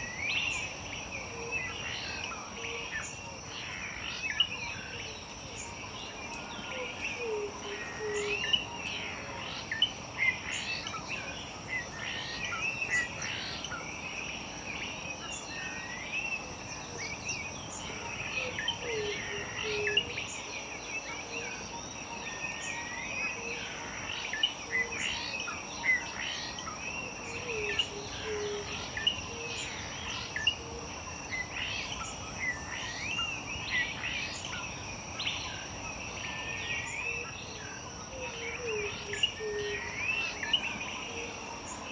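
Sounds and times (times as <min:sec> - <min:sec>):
wild birds singing: 0:00.0 - 0:41.9.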